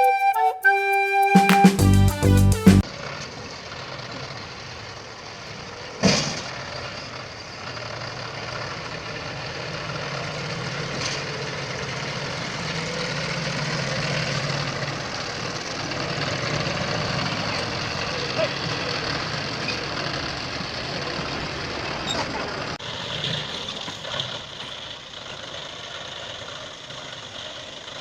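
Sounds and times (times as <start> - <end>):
diesel engine running: 1.9 - 28.0.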